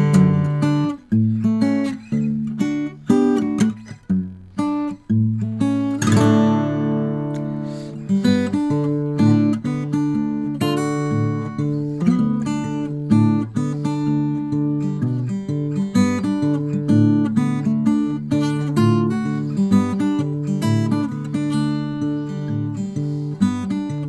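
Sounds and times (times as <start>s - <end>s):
acoustic guitar fingerstyle: 0.0s - 24.0s.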